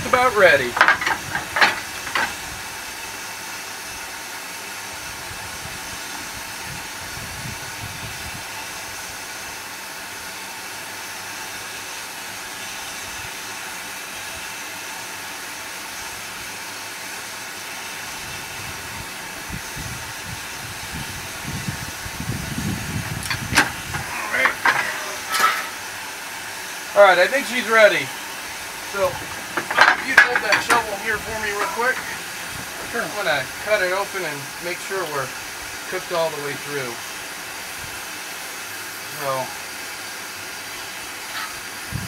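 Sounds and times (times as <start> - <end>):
steam hissing: 0.0 - 42.0.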